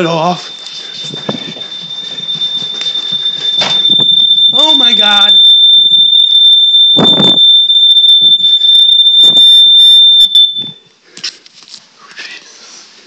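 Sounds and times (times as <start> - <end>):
smoke alarm high-pitched tone: 0.0 - 10.8.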